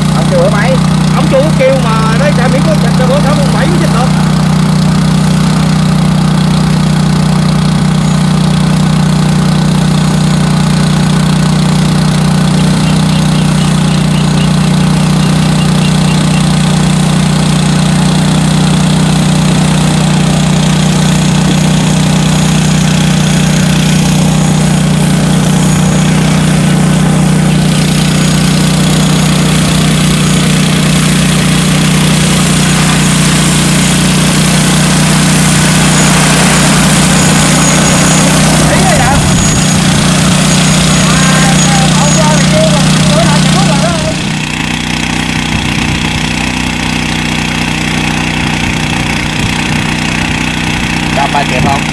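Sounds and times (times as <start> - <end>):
drone propellers humming: 0.0 - 51.9.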